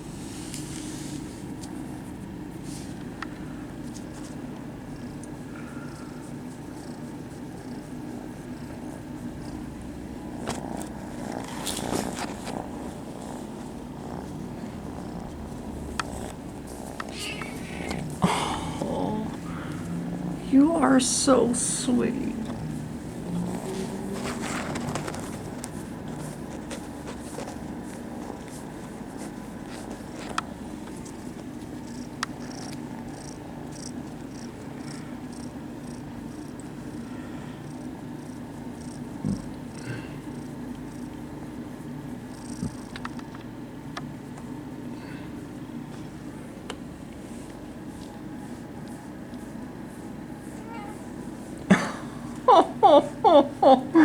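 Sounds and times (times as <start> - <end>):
kittens purring: 0.0 - 54.0.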